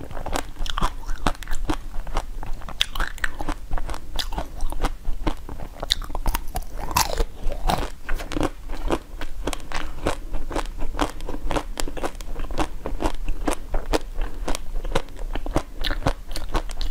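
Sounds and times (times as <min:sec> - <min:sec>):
crunching and chewing: 0:00.0 - 0:16.9.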